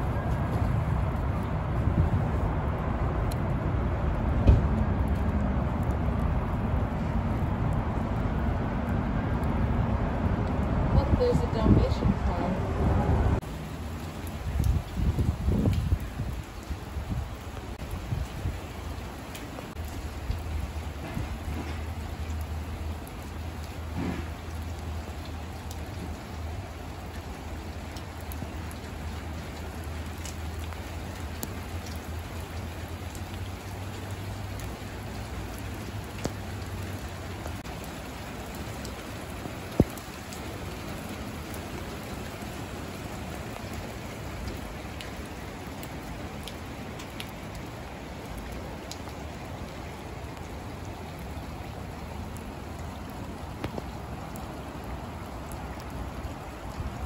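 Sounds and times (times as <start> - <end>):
heavy rain on wet asphalt: 0.0 - 57.0.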